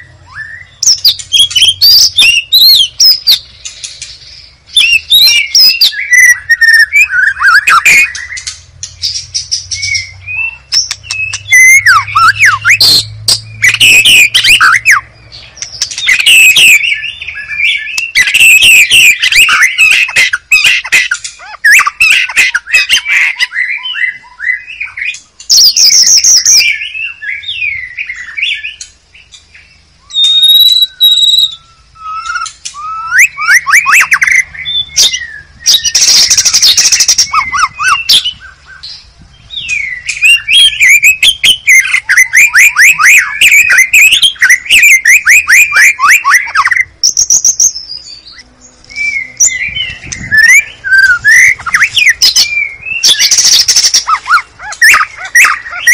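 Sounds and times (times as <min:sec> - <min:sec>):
bird harsh rasping notes: 0:00.0 - 0:55.9
songbird singing whistled trills: 0:00.0 - 0:55.9.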